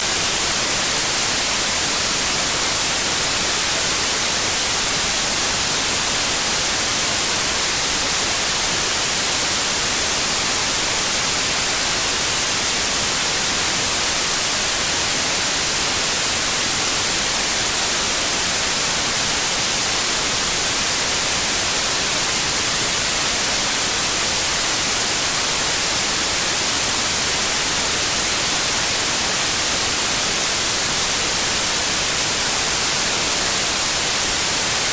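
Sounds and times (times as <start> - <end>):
white noise hiss: 0.0 - 34.9.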